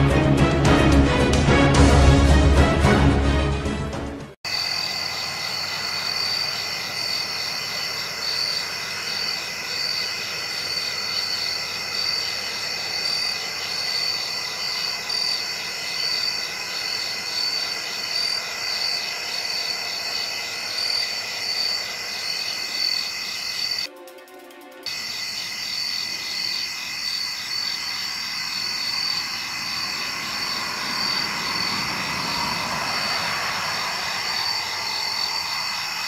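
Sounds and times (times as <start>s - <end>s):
insects trilling: 4.5s - 23.9s, 24.9s - 36.0s.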